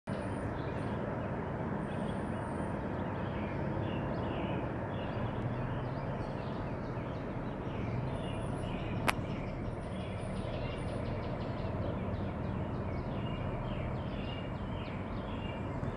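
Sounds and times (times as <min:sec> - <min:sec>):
bird chirps: 0:00.1 - 0:15.9
low outdoor rumble: 0:00.1 - 0:15.9.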